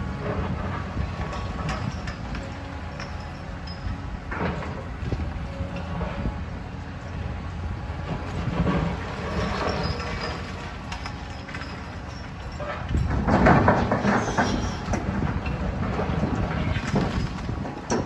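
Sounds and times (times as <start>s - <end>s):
clanking and crunching debris: 0.0s - 6.2s, 8.0s - 18.0s
low engine rumble: 0.0s - 18.0s.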